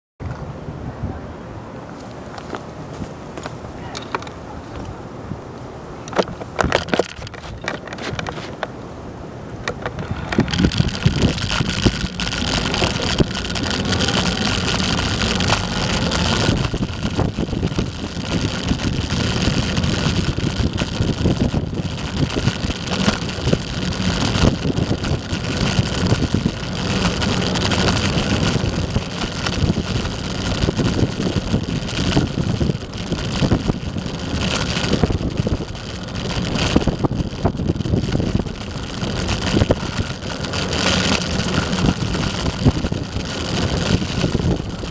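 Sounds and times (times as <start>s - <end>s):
skateboard wheels rumbling on asphalt: 1.8s - 44.9s
wind buffeting microphone: 4.5s - 44.9s.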